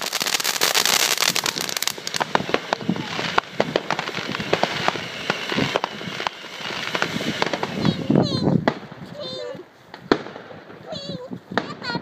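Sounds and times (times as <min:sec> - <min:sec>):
firecrackers crackling: 0:00.0 - 0:12.0
fireworks cracks and bangs: 0:00.0 - 0:12.0.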